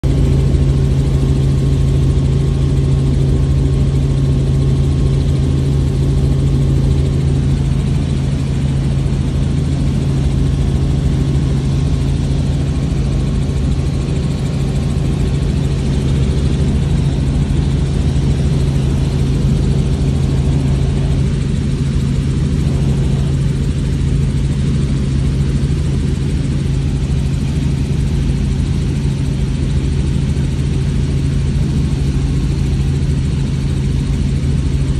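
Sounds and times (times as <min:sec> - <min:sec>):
helicopter engine and rotor drone: 0:00.0 - 0:34.9.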